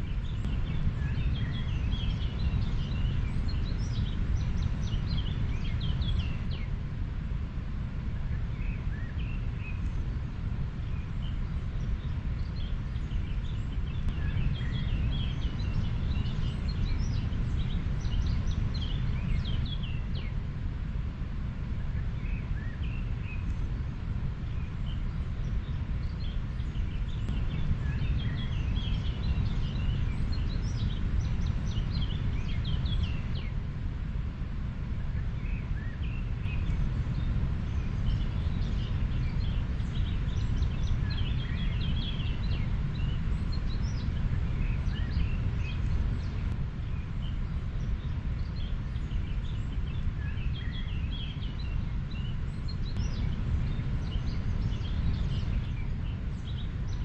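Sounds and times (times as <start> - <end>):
small birds chirping: 0.0 - 6.8, 8.1 - 57.0.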